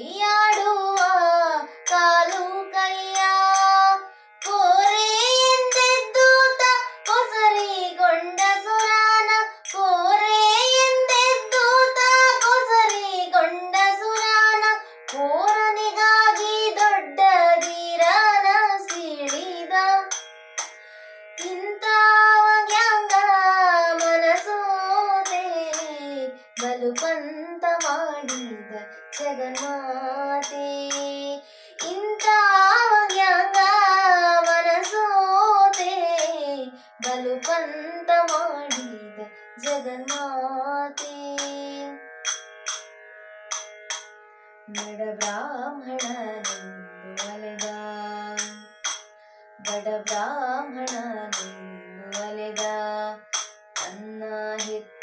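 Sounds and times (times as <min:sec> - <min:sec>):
girl singing: 0:00.0 - 0:20.2, 0:21.4 - 0:42.0, 0:44.7 - 0:48.8, 0:49.6 - 0:55.0.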